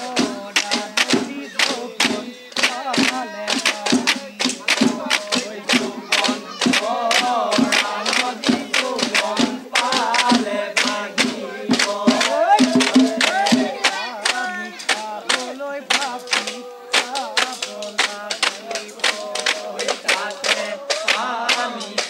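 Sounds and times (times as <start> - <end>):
group singing: 0.0 - 22.0.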